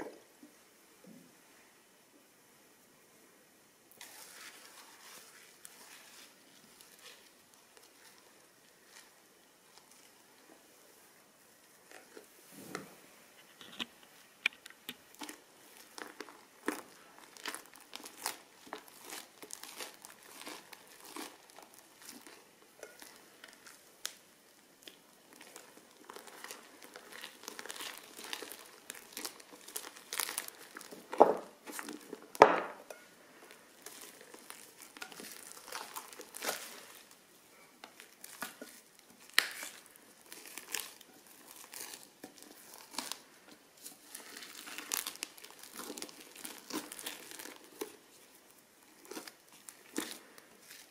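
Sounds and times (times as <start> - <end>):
crunchy slime crinkling: 3.9 - 10.5, 13.4 - 50.9.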